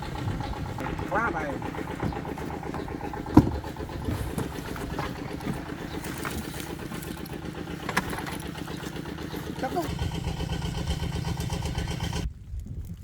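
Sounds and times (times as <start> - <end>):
small engine running: 0.0 - 12.3.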